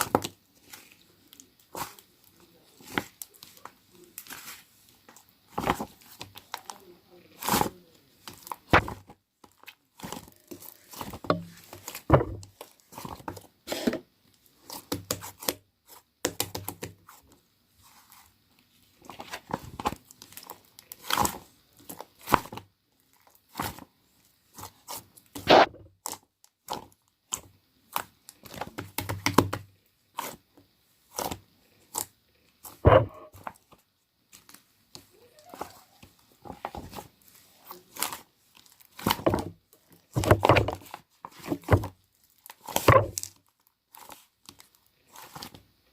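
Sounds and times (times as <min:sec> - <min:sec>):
soft material crackling and tearing: 0:00.0 - 0:45.9.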